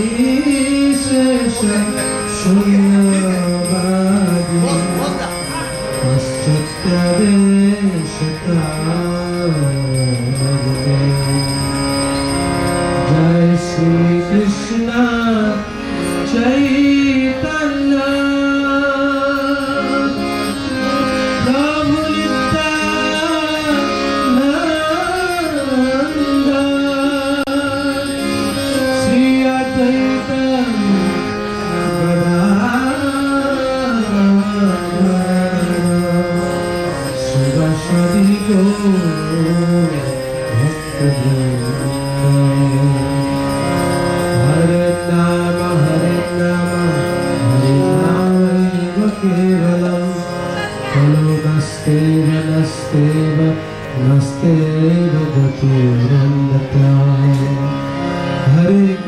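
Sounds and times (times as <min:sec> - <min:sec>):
sliding melody over a drone: 0:00.0 - 0:59.0.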